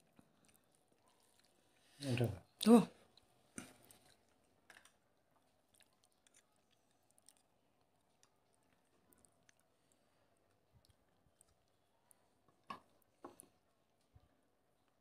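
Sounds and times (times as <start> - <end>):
people eating and chewing: 0.0 - 15.0.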